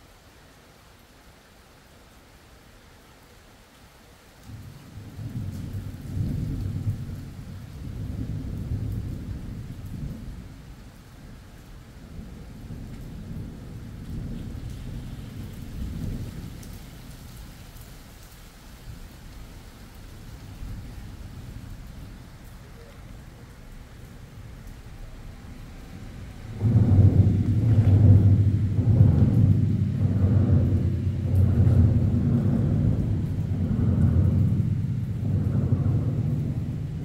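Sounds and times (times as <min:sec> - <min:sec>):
steady rain: 0:00.0 - 0:37.0
thunder rumbling: 0:04.5 - 0:37.0.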